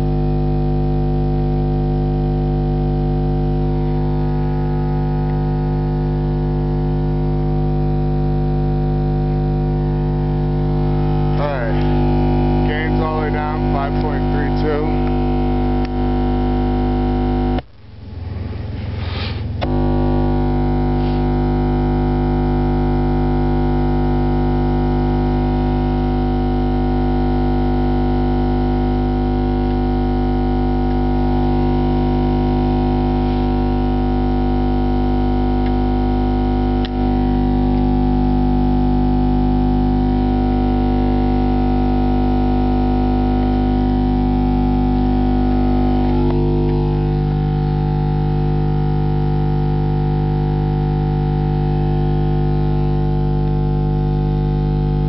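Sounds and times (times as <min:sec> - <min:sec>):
buzzy subwoofer test tone drone: 0:00.0 - 0:55.0.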